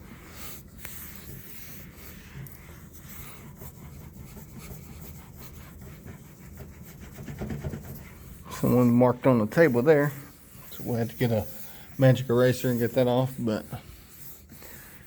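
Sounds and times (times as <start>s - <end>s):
cloth scrubbing a tabletop: 0.0s - 15.0s.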